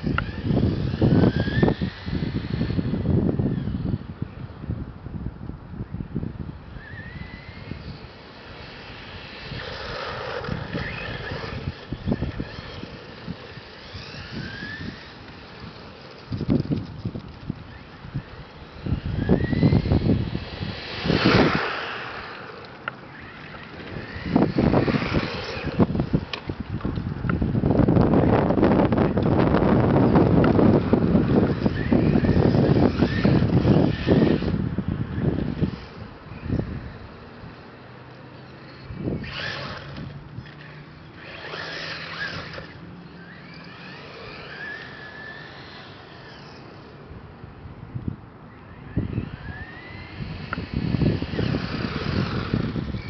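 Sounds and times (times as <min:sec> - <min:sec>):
rc car electric motor whining: 0:00.0 - 0:04.2, 0:06.5 - 0:47.6, 0:48.5 - 0:53.0
wind buffeting microphone: 0:00.0 - 0:37.8, 0:38.6 - 0:53.0.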